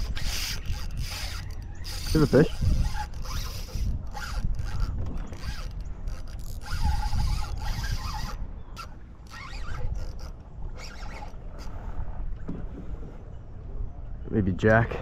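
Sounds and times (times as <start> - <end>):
fishing reel buzzing and whirring: 0.0 - 12.1.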